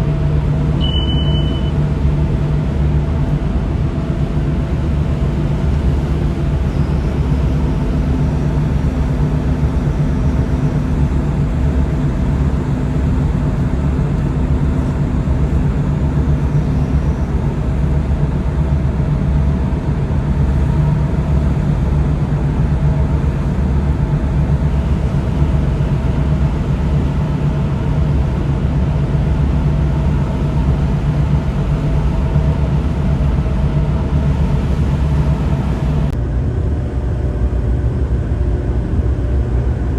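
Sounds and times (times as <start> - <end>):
constant rush of noise: 0.0 - 39.9
tugboat engine hum: 0.0 - 39.9.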